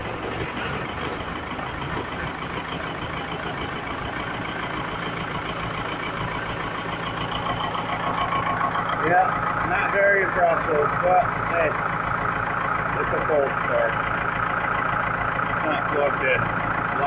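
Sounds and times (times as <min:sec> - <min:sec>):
diesel tractor engine idling: 0:00.0 - 0:17.0.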